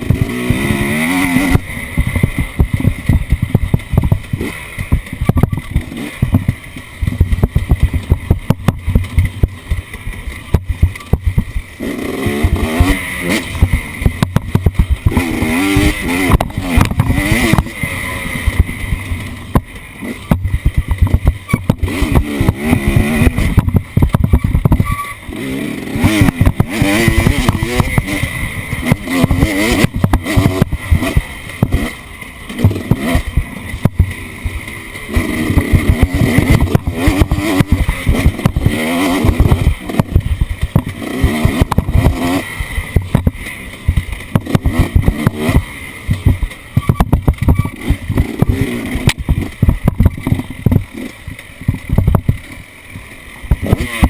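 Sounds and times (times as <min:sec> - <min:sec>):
off-road vehicle engine revving: 0:00.0 - 0:54.0
sharp thumps and rattles: 0:00.0 - 0:54.0.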